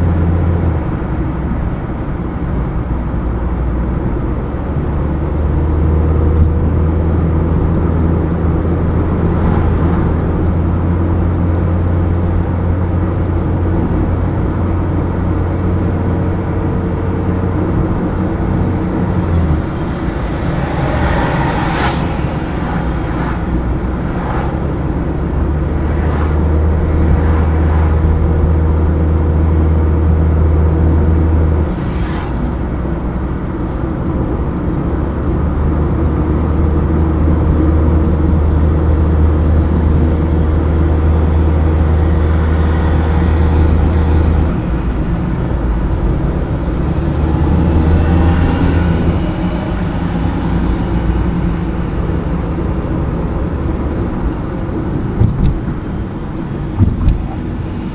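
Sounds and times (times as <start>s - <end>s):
car engine humming: 0.0s - 57.9s
road noise: 0.0s - 57.9s.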